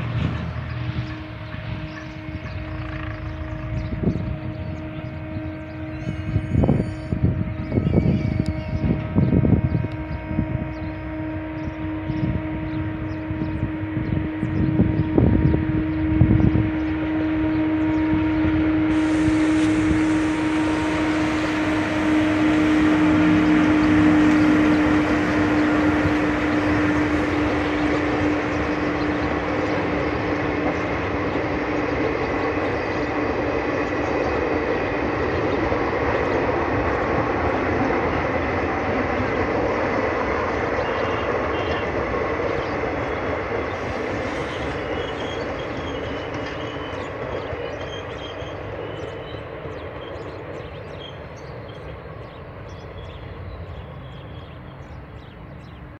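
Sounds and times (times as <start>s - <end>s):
train droning tone: 0.0s - 55.9s
train wheels rumbling on rails: 0.0s - 55.9s.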